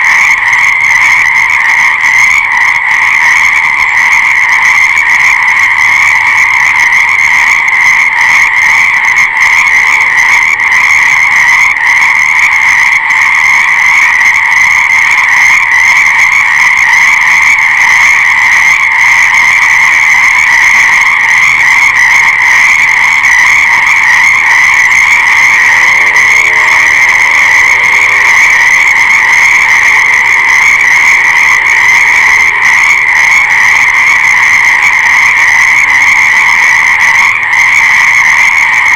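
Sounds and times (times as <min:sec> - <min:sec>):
fainter lower frog call: 0:00.0 - 0:38.9
frog chorus: 0:00.0 - 0:38.9.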